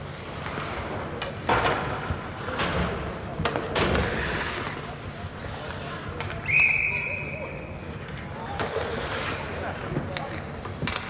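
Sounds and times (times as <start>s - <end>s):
skates and sticks on ice: 0.0s - 11.0s.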